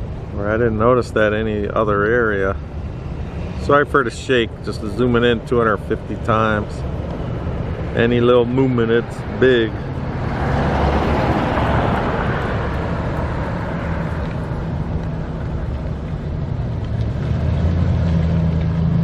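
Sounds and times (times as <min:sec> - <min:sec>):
low engine hum: 0:00.0 - 0:19.0
vehicle passing by: 0:02.5 - 0:19.0.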